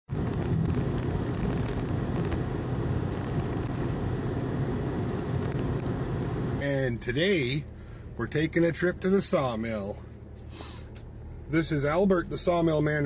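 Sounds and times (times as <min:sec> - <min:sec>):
road and engine noise in vehicle: 0:00.1 - 0:13.0.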